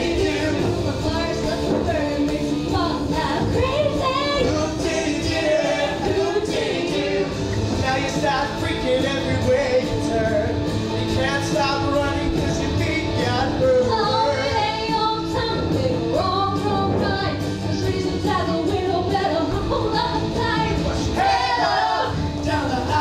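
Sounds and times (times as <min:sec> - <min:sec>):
rock backing music: 0:00.0 - 0:23.0
steady drum beat: 0:00.0 - 0:23.0
voices singing: 0:00.0 - 0:23.0.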